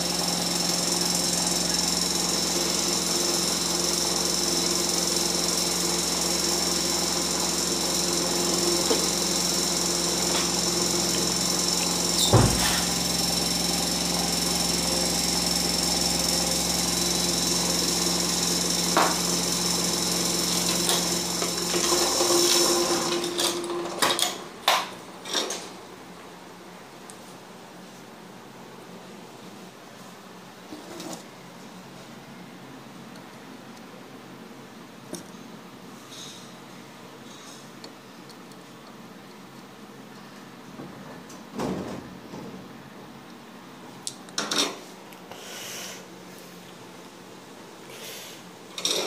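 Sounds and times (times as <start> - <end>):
machine hum with high whine: 0.0 - 44.6.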